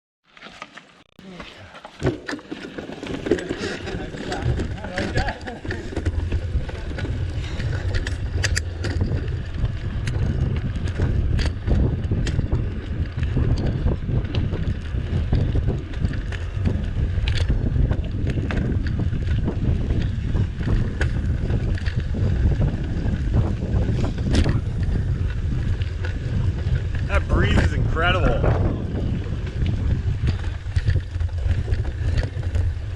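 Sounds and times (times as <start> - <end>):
bike clicks and rattles: 1.8 - 32.9
wind buffeting microphone: 3.2 - 32.9.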